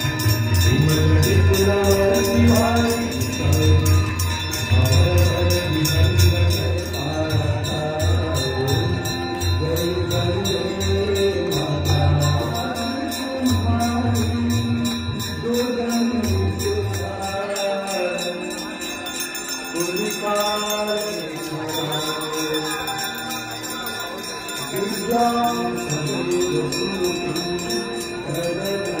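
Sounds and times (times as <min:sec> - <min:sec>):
bells ringing rapidly: 0:00.0 - 0:29.0
chanted sung hymn: 0:00.0 - 0:29.0.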